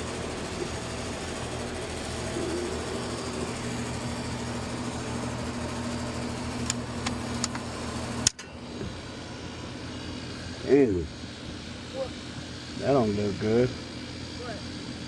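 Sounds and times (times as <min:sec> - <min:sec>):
air conditioner humming: 0:00.0 - 0:15.0
motor winding down: 0:00.0 - 0:15.0.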